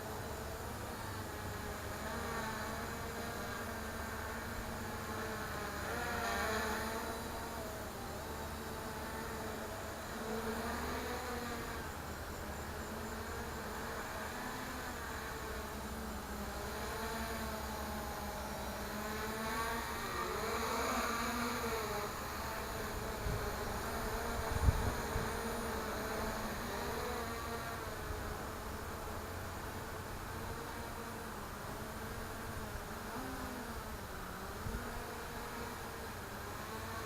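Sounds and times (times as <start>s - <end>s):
quadcopter motors buzzing: 0.0s - 37.0s.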